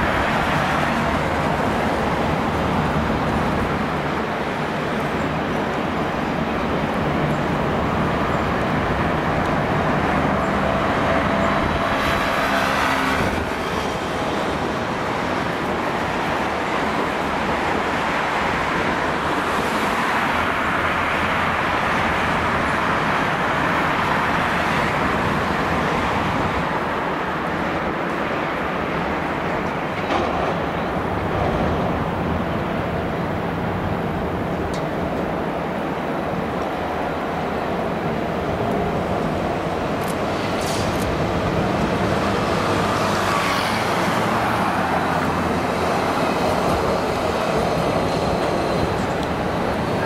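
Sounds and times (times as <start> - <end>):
street traffic: 0.0 - 50.0
tram rumbling on rails: 0.0 - 50.0.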